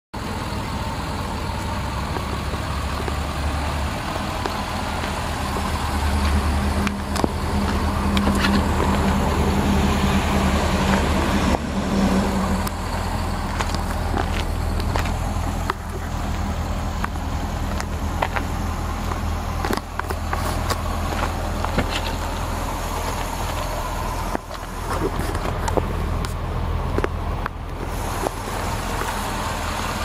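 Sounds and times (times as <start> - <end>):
car engine idling: 0.2 - 30.0.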